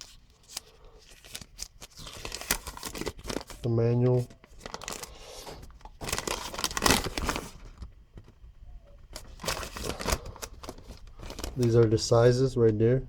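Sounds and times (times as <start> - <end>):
paper rustling and crinkling: 0.0 - 12.3.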